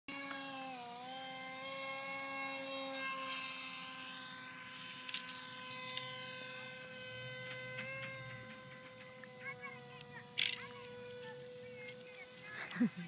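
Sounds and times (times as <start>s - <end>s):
model plane motor whine: 0.1s - 13.0s.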